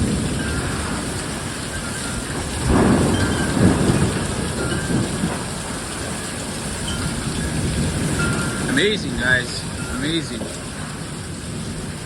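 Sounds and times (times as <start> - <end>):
heavy rain: 0.0 - 12.0
rolling thunder rumble: 0.0 - 12.0
wind: 0.0 - 12.0.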